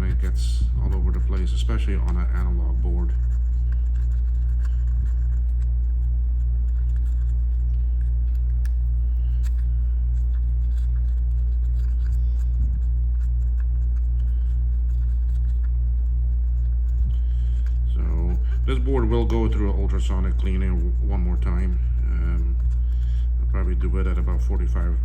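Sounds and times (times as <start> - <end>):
swab scratching circuit board: 0.0 - 25.0
throbbing electrical hum: 0.0 - 25.0.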